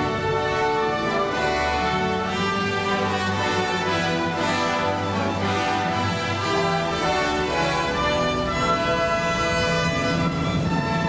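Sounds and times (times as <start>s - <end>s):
orchestral strings holding long notes: 0.0s - 11.0s.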